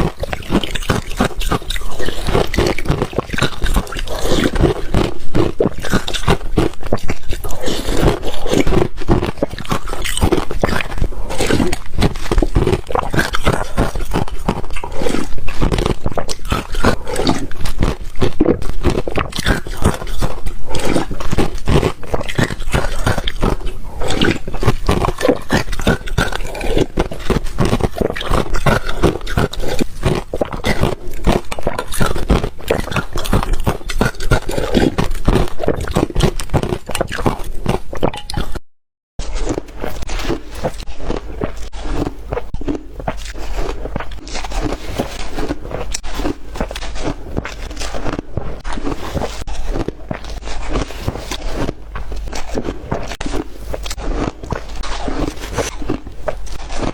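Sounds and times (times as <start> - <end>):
ice being chewed: 0.0 - 56.9.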